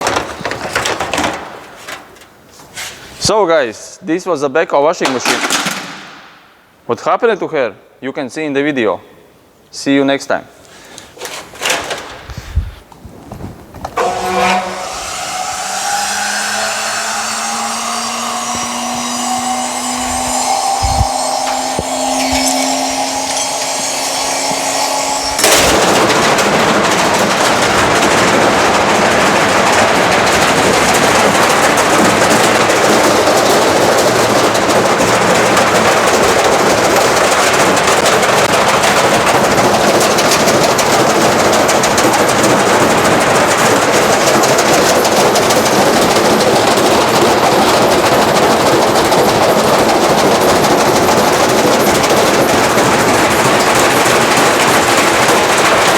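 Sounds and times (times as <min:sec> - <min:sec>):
washing machine banging and rattling: 0:00.0 - 0:02.8, 0:05.0 - 0:06.5, 0:11.2 - 0:12.3, 0:13.1 - 0:55.9
washing machine humming: 0:00.0 - 0:03.2, 0:10.8 - 0:55.9.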